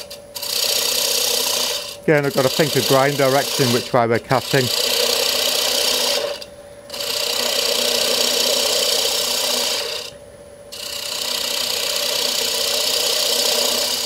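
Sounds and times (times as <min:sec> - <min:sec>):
gouge cutting wood on lathe: 0:00.0 - 0:14.0.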